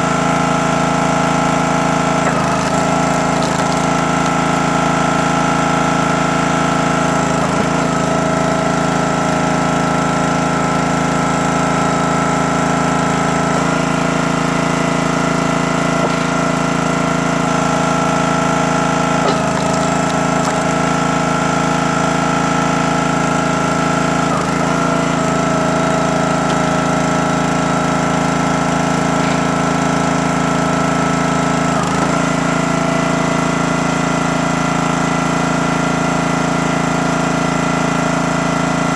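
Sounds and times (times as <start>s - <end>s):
log splitter gas engine running: 0.0s - 38.9s.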